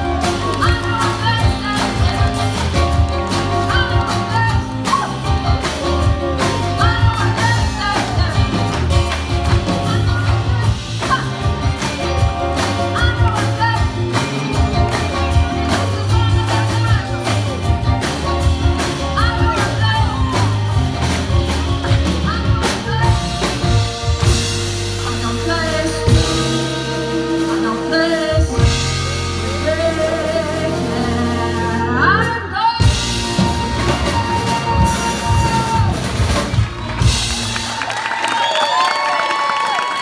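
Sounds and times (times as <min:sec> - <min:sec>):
steady drum beat: 0:00.0 - 0:31.5, 0:32.8 - 0:38.3
woman singing lead: 0:00.0 - 0:36.0
live pop band playing: 0:00.0 - 0:40.0.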